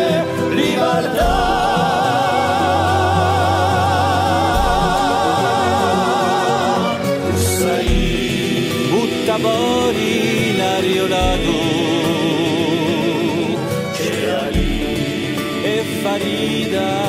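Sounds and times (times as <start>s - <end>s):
solo voice singing vibrato: 0.0s - 17.0s.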